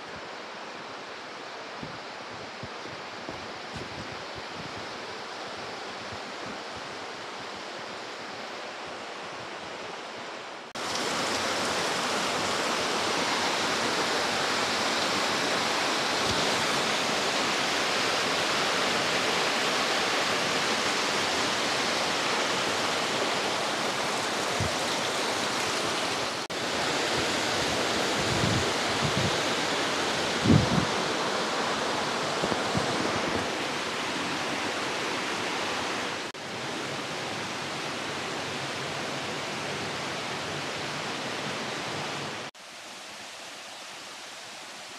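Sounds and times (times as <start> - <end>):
waterfall rushing: 4.2 - 44.9.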